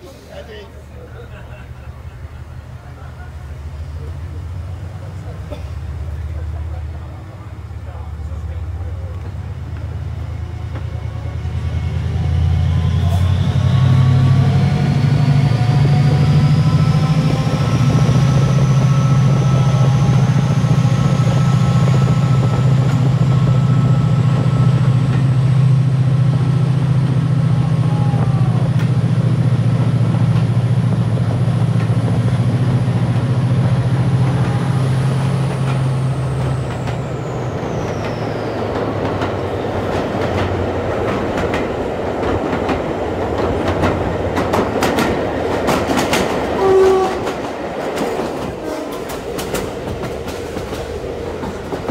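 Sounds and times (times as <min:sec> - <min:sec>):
diesel locomotive engine: 0:00.0 - 0:51.9.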